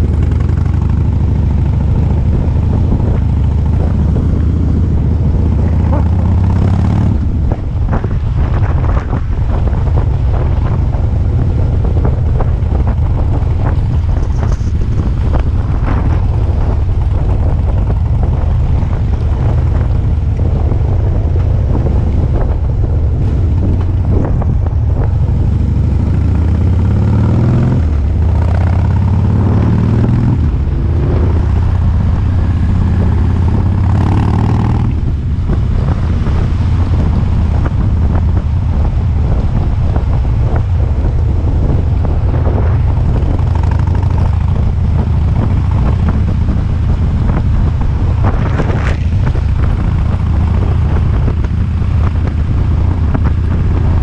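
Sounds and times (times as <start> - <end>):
motorcycle engine revving: 0.0 - 54.0
wind on microphone: 0.0 - 54.0.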